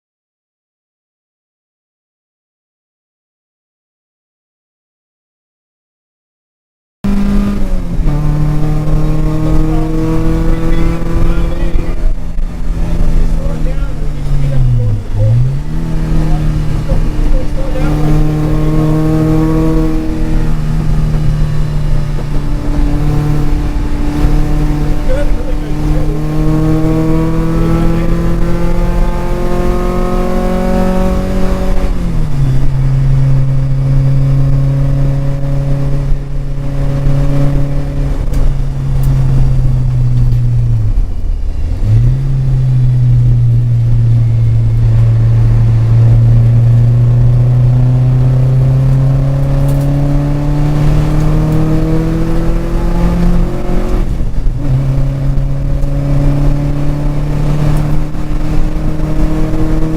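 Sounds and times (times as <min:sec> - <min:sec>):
car engine accelerating under load: 0:07.0 - 0:59.9
road and wind noise: 0:07.0 - 0:59.9.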